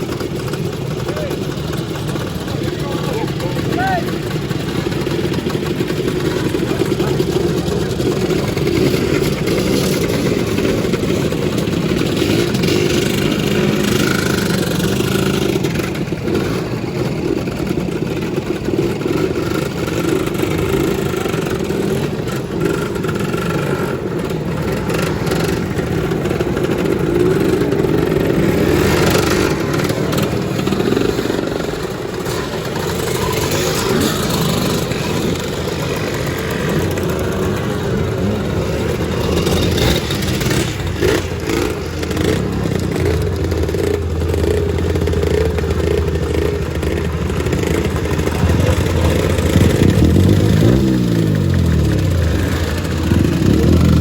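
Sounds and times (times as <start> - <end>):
scooter engines revving: 0.0 - 54.0.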